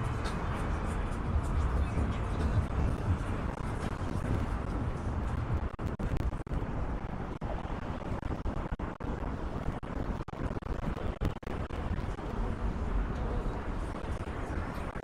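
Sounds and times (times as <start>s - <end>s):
city street traffic: 0.0s - 15.0s
wind buffeting microphone: 0.0s - 15.0s.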